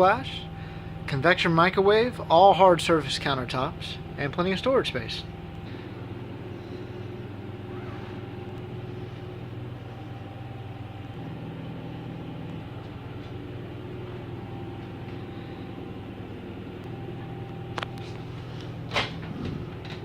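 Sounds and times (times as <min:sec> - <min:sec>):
faint steady whine: 0:00.0 - 0:20.0
low mechanical drone: 0:00.0 - 0:20.0.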